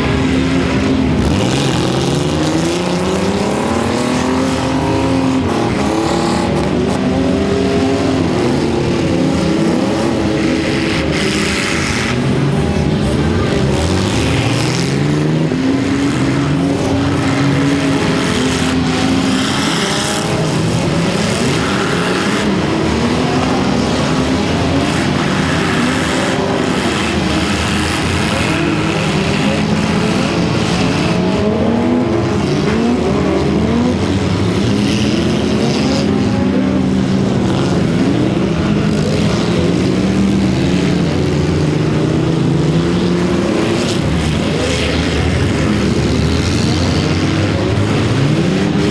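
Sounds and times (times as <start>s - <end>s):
many car engines revving: 0.0s - 48.9s.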